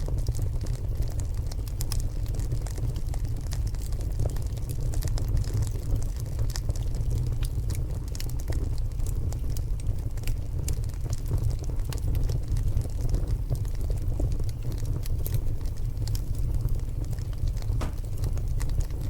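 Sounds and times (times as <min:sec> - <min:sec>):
log fire rumbling: 0:00.0 - 0:19.0
wood crackling and popping: 0:00.0 - 0:19.0.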